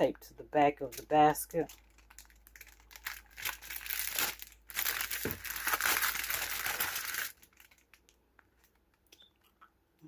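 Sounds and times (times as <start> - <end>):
crinkly wrapping crackling: 0.8 - 9.1.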